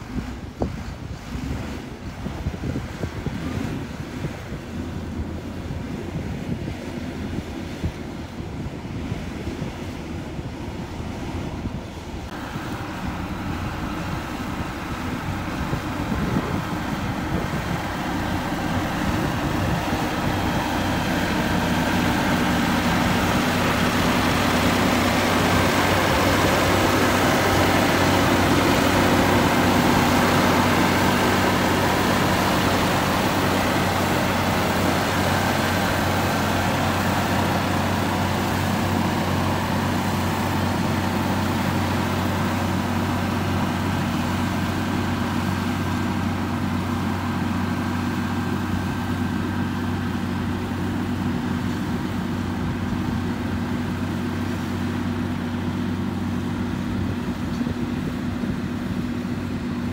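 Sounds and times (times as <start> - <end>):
motor grader running: 0.0 - 59.9
road roller engine droning: 0.0 - 59.9.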